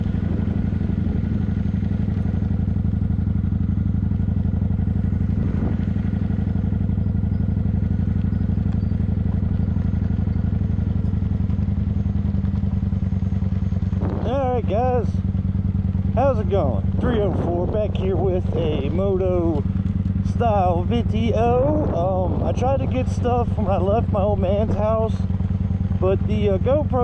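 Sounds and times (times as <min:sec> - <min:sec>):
motorcycle engine running steadily: 0:00.0 - 0:27.0.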